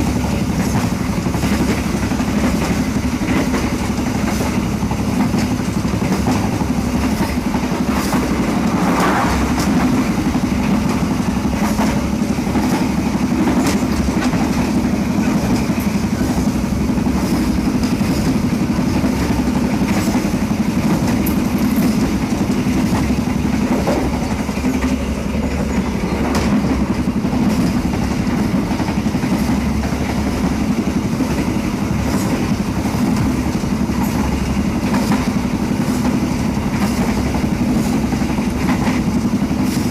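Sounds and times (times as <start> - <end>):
train carriage rumbling on track: 0.0 - 39.9.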